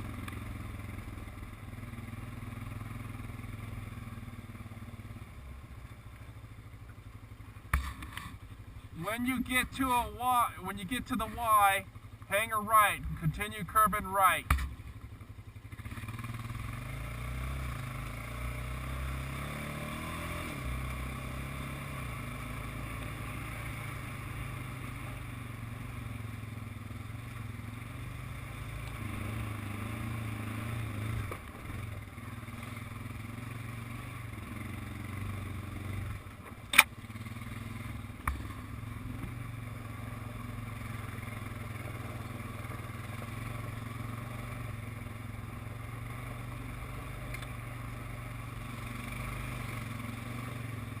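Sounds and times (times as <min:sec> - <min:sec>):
atv engine running: 0:00.0 - 0:51.0.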